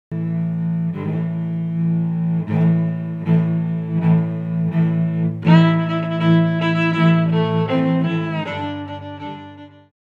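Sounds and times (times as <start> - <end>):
low bowed-string intro music: 0.1 - 9.9.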